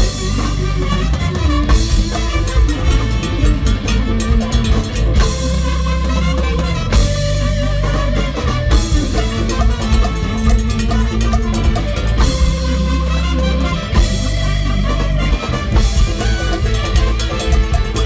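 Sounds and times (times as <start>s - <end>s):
bass guitar: 0.0s - 18.0s
congas: 0.0s - 18.0s
drum kit: 0.0s - 18.0s
electric guitar: 0.0s - 18.0s
rock band playing: 0.0s - 18.0s.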